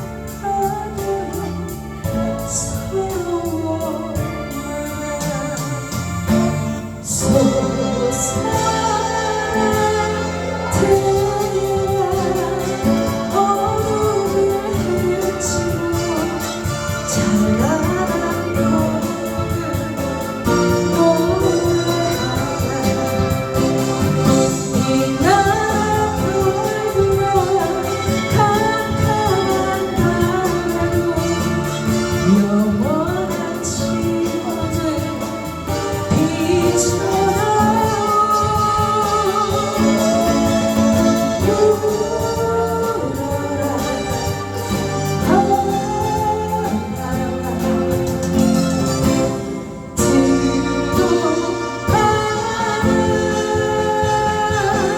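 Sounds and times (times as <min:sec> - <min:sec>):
instrumental accompaniment: 0:00.0 - 0:54.9
person singing a slow ballad: 0:00.0 - 0:54.9.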